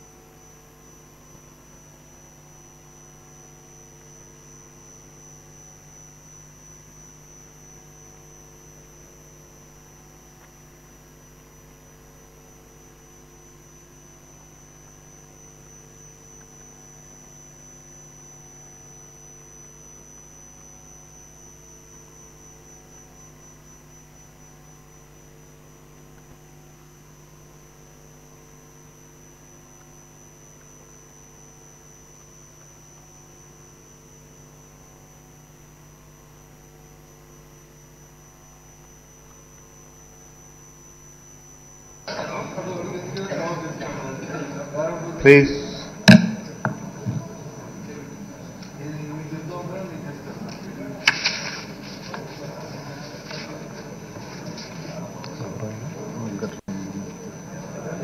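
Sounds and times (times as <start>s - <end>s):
electrical hum: 0.0s - 58.0s
high-pitched whine: 0.0s - 58.0s.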